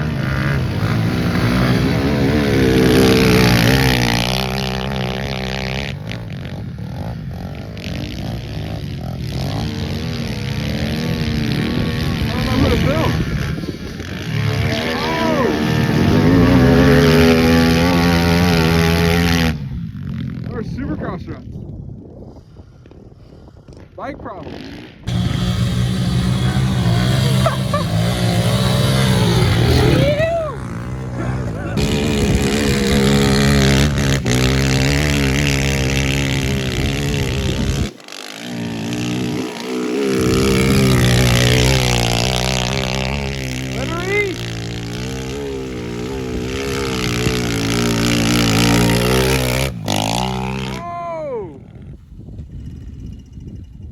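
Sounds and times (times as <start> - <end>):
small motorbike engine revving: 0.0 - 20.5, 24.4 - 50.9.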